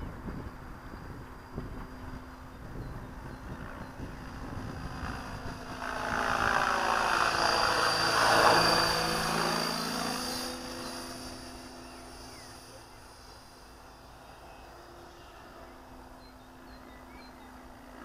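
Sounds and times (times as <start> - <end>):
high whine: 0.0 - 18.0
model helicopter rotor noise: 0.0 - 18.0.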